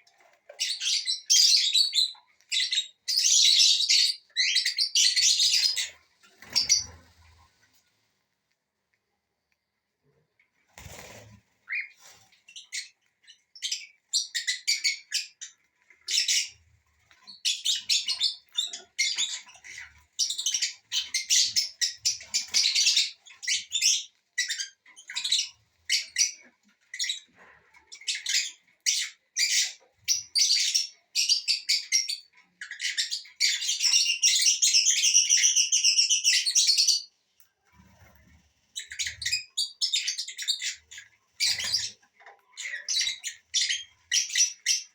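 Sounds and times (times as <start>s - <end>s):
parrots chattering and squawking: 0.2s - 7.5s, 10.8s - 37.1s, 37.9s - 44.9s.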